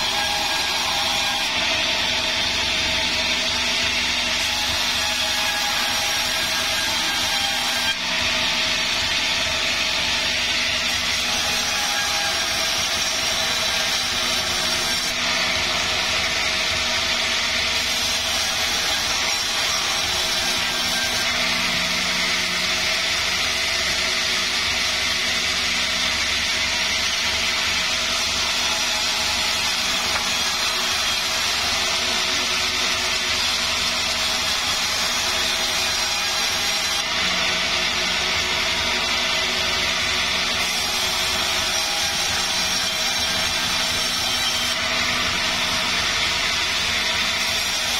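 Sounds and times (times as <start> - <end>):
sawmill saw cutting log: 0.0 - 47.9.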